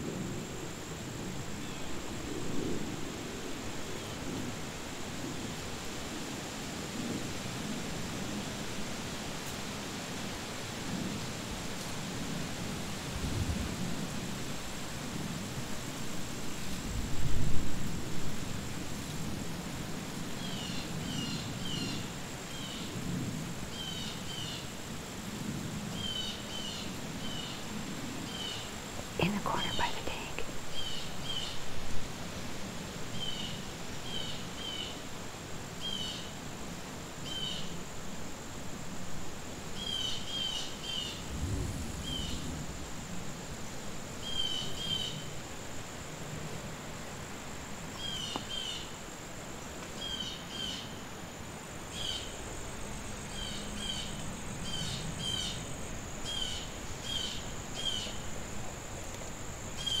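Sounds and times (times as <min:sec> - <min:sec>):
insect chirps: 0:00.0 - 0:10.0, 0:11.1 - 1:00.0
insect drone: 0:00.0 - 1:00.0.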